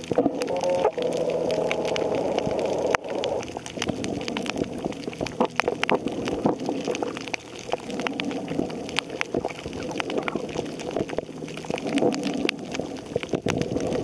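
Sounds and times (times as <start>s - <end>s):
steady multi-tone hum: 0.0s - 13.2s
underwater crackle of clicks: 0.0s - 14.0s.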